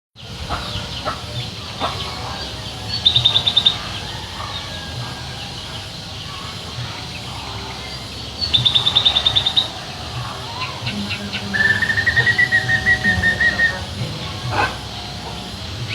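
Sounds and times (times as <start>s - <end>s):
songbird chirping: 0.2s - 15.9s.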